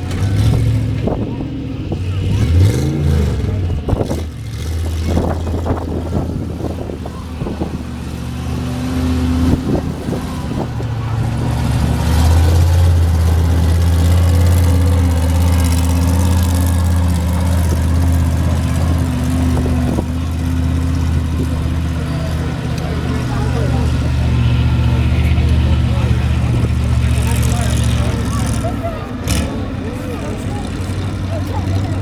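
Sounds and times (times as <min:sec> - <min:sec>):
engine knocks: 0:00.0 - 0:32.0
large vehicle engine running: 0:00.0 - 0:32.0.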